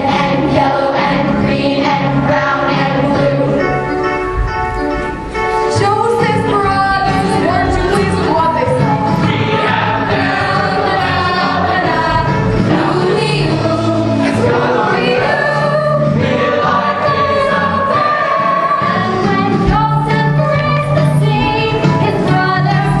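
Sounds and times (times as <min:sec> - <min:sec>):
chorus singing: 0:00.0 - 0:04.0, 0:06.2 - 0:23.0
musical accompaniment: 0:00.0 - 0:23.0.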